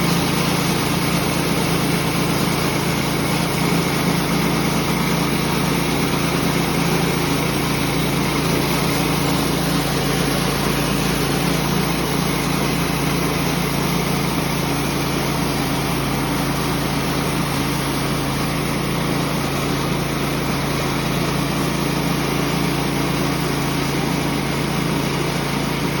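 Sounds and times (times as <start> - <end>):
sawmill engine humming: 0.0 - 26.0.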